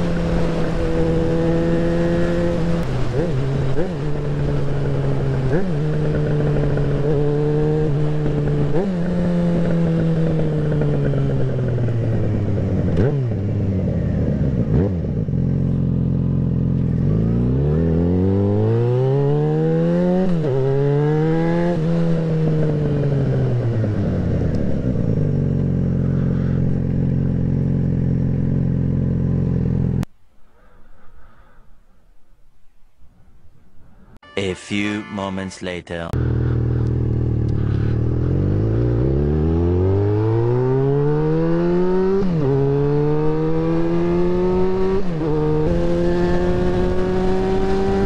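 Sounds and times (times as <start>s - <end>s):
motorcycle engine revving: 0.0s - 30.1s, 36.2s - 48.0s.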